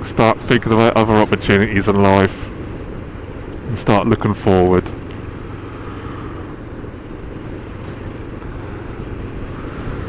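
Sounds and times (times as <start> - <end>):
motorcycle engine cruising: 0.0 - 10.0
road noise: 0.0 - 10.0.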